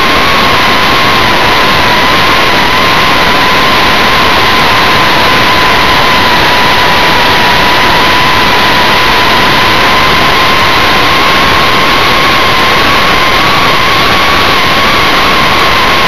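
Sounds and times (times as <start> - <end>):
model jet motor whine: 0.0 - 16.0
wind noise on microphone: 0.0 - 16.0.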